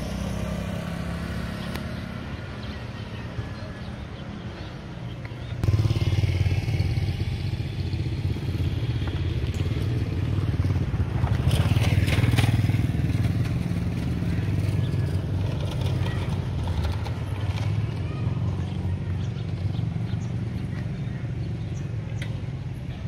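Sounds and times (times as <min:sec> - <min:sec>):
small engine droning: 0:00.0 - 0:23.0.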